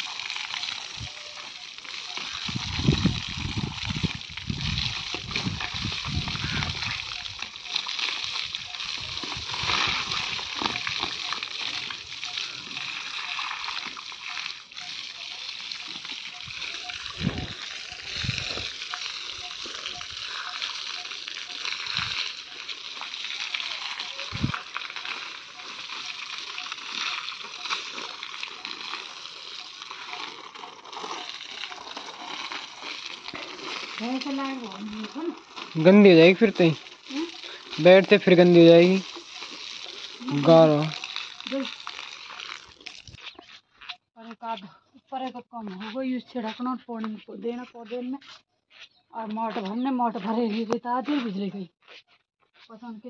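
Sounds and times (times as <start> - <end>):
hose water spraying: 0.0 - 43.4
water splashing on brick floor: 0.0 - 44.0.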